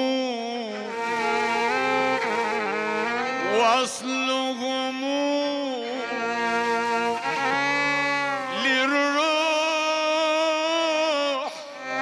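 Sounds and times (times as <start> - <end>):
man singing melismatic notes: 0.0 - 12.0
violin accompaniment: 0.0 - 12.0.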